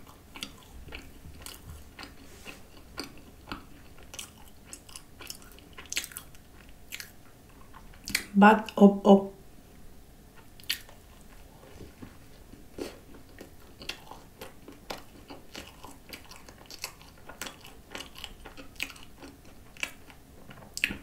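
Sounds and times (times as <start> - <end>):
chewing: 0.0 - 8.3, 10.4 - 21.0.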